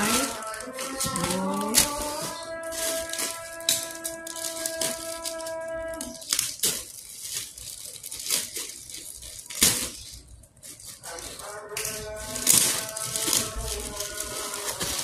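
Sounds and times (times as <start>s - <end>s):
plastic crinkling: 0.0s - 15.0s
scissors snipping plastic: 0.0s - 15.0s.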